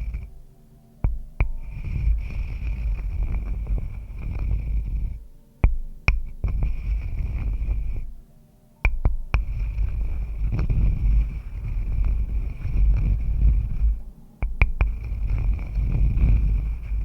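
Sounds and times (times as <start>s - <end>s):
rubbing and scratching: 0.0s - 17.0s.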